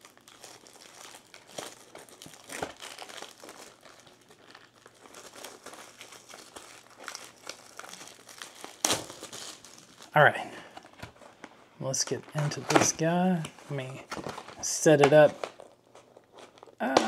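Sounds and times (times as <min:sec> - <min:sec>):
plastic shrink-wrap crinkling: 0:00.0 - 0:17.0.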